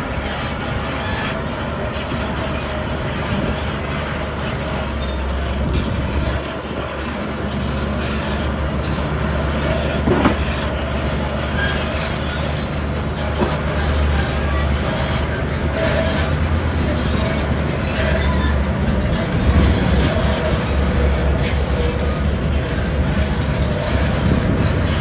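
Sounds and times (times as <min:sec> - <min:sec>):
diesel machinery engine rumble: 0:00.0 - 0:25.0.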